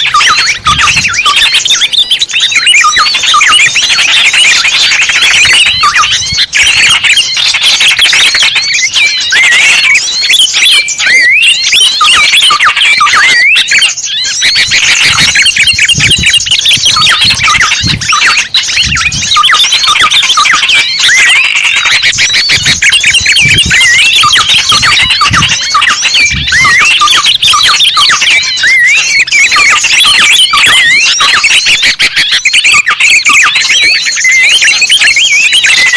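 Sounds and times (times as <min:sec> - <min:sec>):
songbirds chirping and twittering: 0:00.0 - 0:35.9.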